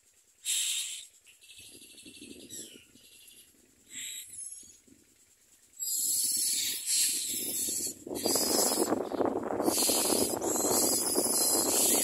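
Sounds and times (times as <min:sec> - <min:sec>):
nestlings raspy begging calls: 0:00.4 - 0:04.8, 0:05.8 - 0:12.0.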